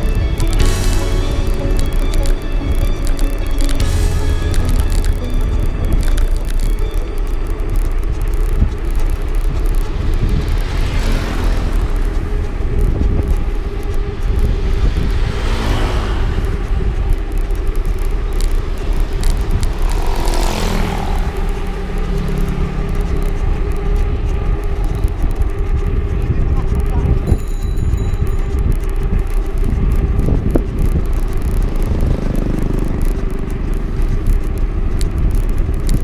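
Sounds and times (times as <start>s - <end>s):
vehicles passing by: 0.0s - 27.4s, 28.1s - 36.0s
engine and road rumble: 0.0s - 36.0s.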